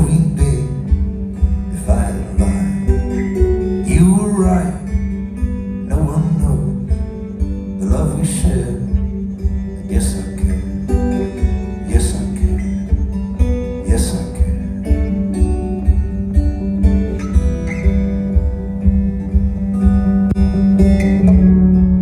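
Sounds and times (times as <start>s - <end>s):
folk-rock band playing: 0.0s - 22.0s
kick-drum beat: 0.0s - 22.0s
strummed acoustic guitar: 0.0s - 22.0s.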